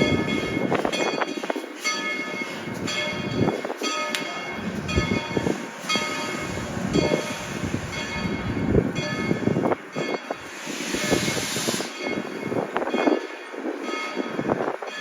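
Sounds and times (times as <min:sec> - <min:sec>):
locomotive bell ringing: 0:00.0 - 0:15.0
train rumbling: 0:00.0 - 0:15.0.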